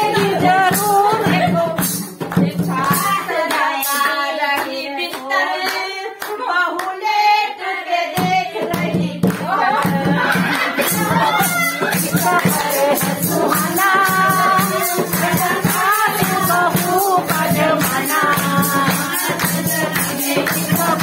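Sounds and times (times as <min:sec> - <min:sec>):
hands clapping a beat: 0:00.0 - 0:07.0, 0:08.1 - 0:21.0
woman singing: 0:00.0 - 0:21.0.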